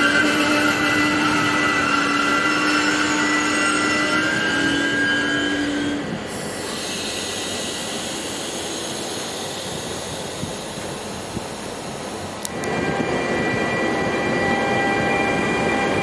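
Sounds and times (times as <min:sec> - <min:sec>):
electric locomotive whine: 0:00.0 - 0:16.0.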